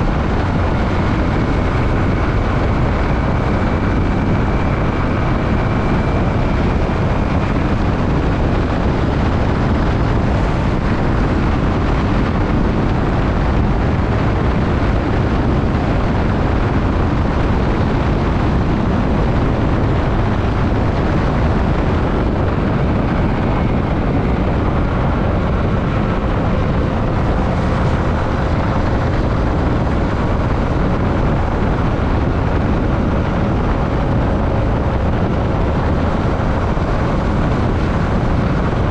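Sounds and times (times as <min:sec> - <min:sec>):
motorcycle engine running: 0:00.0 - 0:38.9
road noise: 0:00.0 - 0:38.9
wind rushing: 0:00.0 - 0:38.9.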